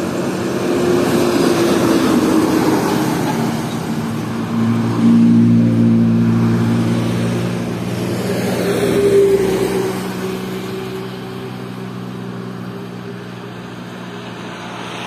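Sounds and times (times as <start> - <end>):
car passing: 0.0 - 15.0
truck diesel engine passing: 0.0 - 15.0.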